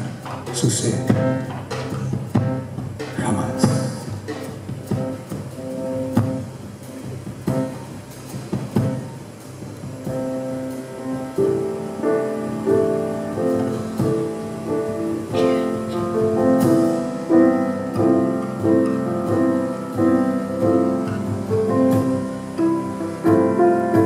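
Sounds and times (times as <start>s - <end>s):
piano playing: 0.0s - 24.0s.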